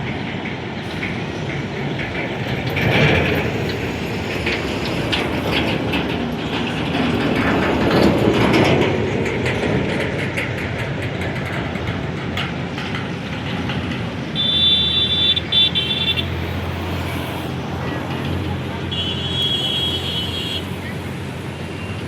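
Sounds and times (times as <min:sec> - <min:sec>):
train wheels clattering: 0:00.0 - 0:22.0.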